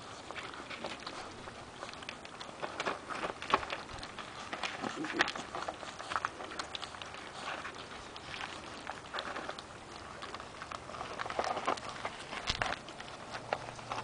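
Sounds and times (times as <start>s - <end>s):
puppies lapping at a bowl: 0.0s - 14.0s.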